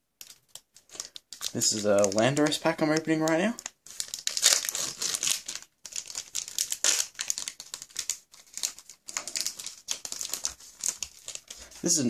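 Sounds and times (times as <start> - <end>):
foil wrapper crinkling: 0.2 - 12.0.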